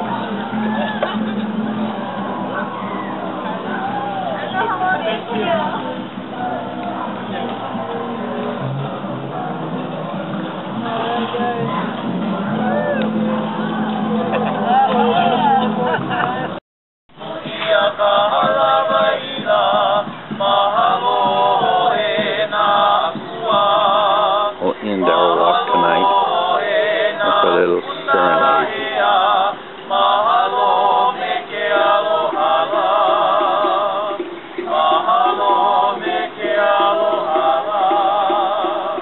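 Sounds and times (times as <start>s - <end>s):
men and women singing in harmony: 3.6s - 16.6s, 17.2s - 39.0s.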